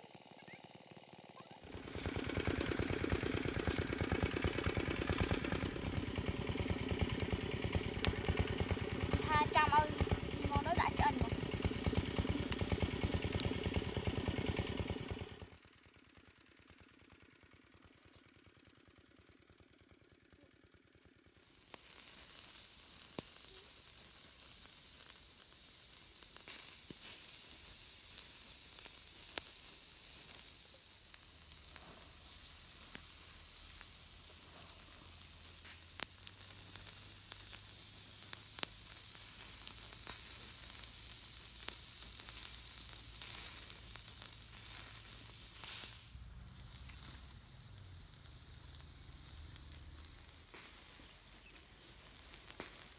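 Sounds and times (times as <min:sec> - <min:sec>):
fat sizzling and popping on embers: 0:00.0 - 0:52.9.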